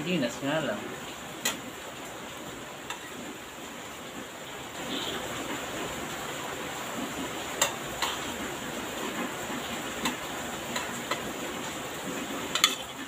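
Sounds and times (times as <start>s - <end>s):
heavy rain hiss: 0.0s - 13.0s.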